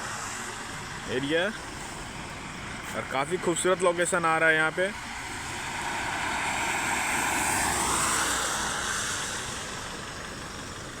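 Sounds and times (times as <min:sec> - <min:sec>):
vehicle passing on wet road: 0:00.0 - 0:04.0, 0:04.9 - 0:11.0.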